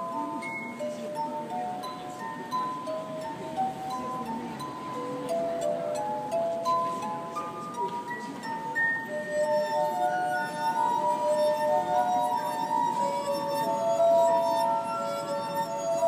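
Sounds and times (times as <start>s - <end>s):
slow melody of ringing notes: 0.0s - 16.0s.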